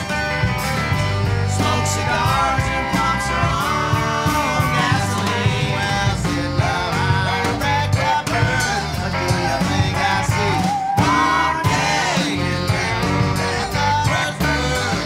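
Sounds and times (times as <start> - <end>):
rock song instrumental: 0.0 - 15.0.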